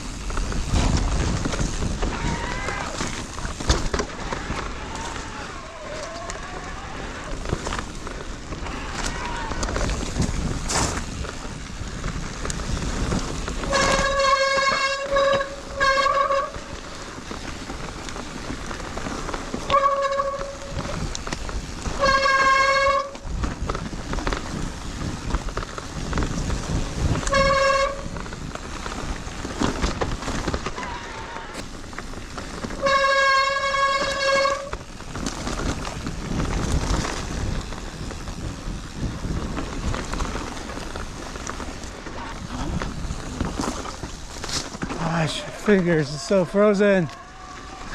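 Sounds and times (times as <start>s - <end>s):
wind and riding noise: 0.0s - 47.9s.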